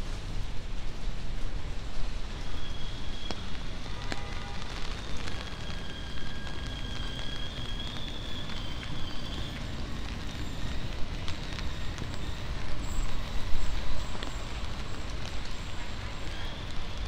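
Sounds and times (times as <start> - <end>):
rain on wet street: 0.0 - 17.0.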